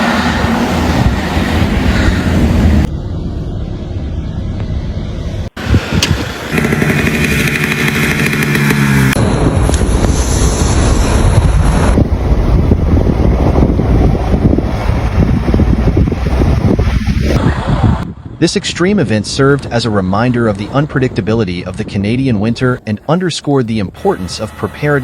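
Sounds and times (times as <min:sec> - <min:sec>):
rough rumbling noise: 0:00.0 - 0:25.0
vehicle engines running: 0:00.0 - 0:25.0.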